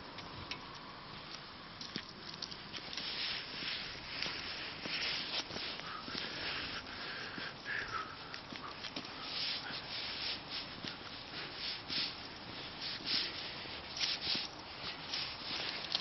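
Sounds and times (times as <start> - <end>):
footsteps crunching on snow: 1.8 - 16.0.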